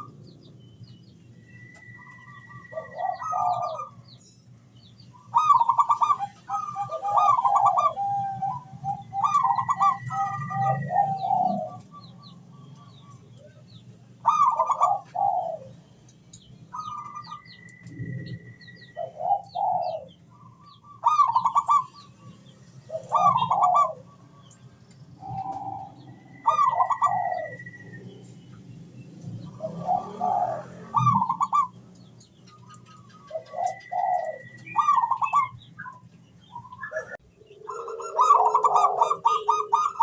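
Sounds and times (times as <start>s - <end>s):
small birds chirping: 0.0s - 40.0s
dove cooing: 1.7s - 4.0s, 5.2s - 13.3s, 14.2s - 15.8s, 16.7s - 22.3s, 22.9s - 24.5s, 25.2s - 28.2s, 29.4s - 40.0s.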